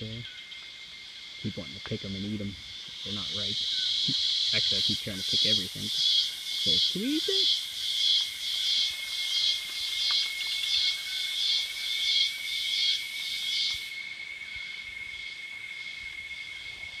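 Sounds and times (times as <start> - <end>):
pulsing insect buzzing chorus: 0.0 - 16.7
high-pitched insect tone: 0.0 - 17.0.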